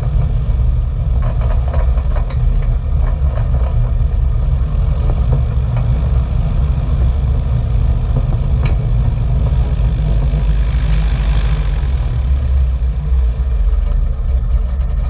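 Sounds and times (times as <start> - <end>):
propeller plane engine rumbling: 0.0 - 15.0.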